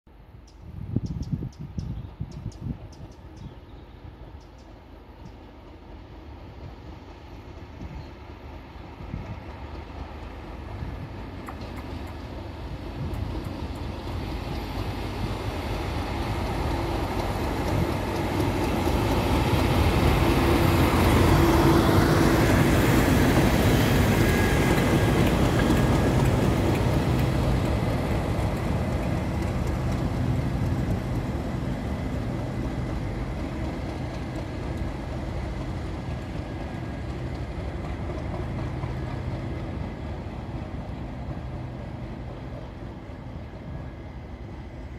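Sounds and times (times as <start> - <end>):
diesel locomotive passing: 0.1 - 44.9.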